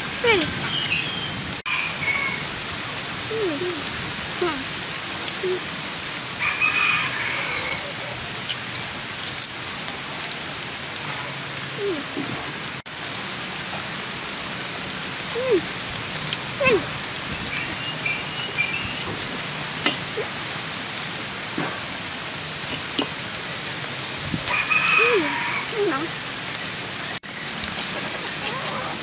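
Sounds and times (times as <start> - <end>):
rain hissing on shelter: 0.0 - 29.0.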